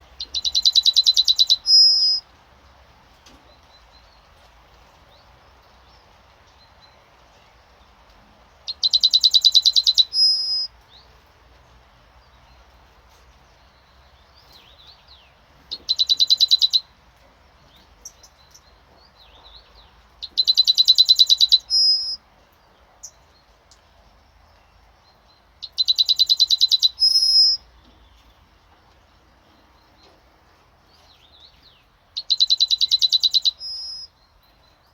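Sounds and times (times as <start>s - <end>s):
yellowhammer singing: 0.0s - 11.3s, 12.2s - 34.9s.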